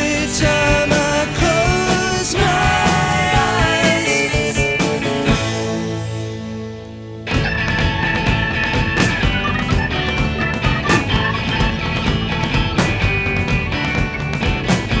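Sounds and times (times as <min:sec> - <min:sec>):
rock song with guitar and vocals: 0:00.0 - 0:15.0.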